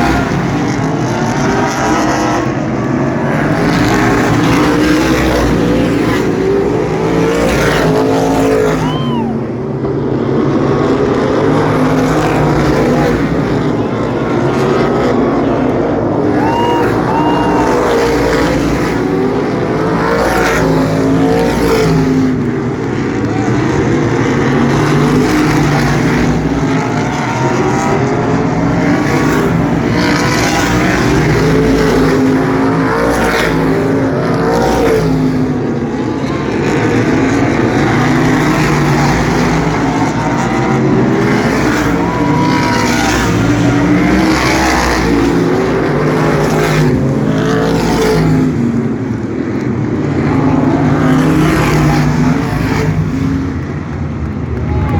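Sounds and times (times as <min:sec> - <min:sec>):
racing car engines passing: 0:00.0 - 0:54.9.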